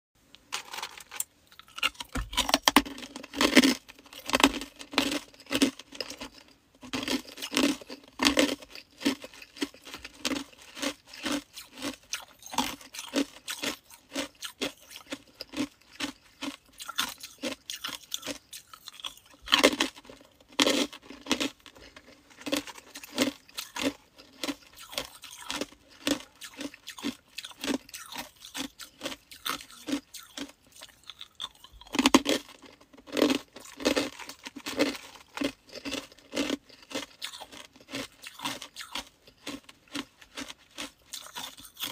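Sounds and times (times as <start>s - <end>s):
ice being chewed: 0.6s - 41.9s.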